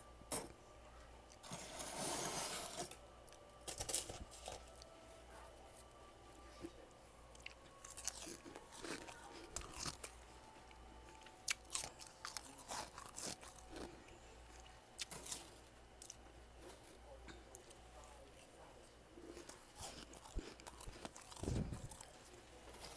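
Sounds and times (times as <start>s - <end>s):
faint steady hum: 0.0s - 22.9s
chewing crunchy frost: 1.3s - 18.6s, 19.2s - 22.9s.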